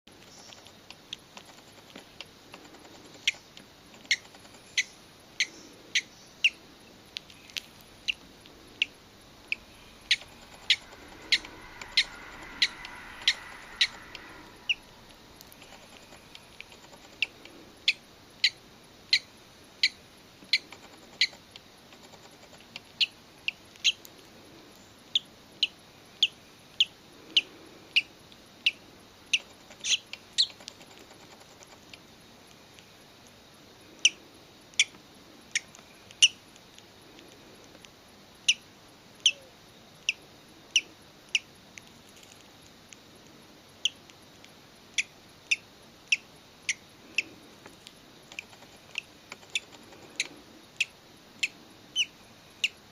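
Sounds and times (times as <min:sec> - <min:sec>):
faint hiss: 0:00.1 - 0:52.9
parrot chick peeping: 0:00.2 - 0:24.2, 0:25.1 - 0:32.0, 0:34.0 - 0:36.8, 0:37.7 - 0:42.4, 0:43.8 - 0:52.8.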